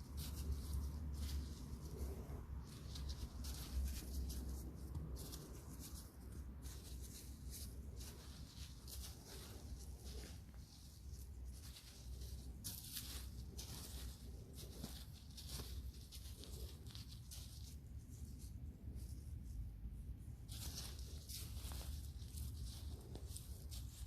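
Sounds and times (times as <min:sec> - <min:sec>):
scratching and rustling strokes: 0:00.0 - 0:24.0
steady low rumble: 0:00.0 - 0:24.0.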